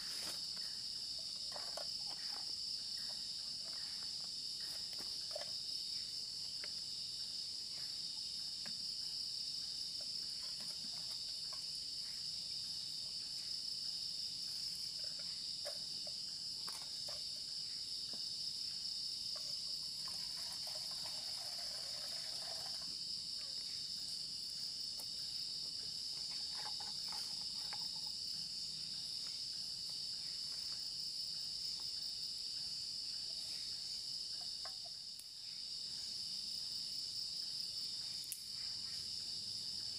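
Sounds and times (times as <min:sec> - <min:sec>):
night insects chirring: 0:00.0 - 0:39.9.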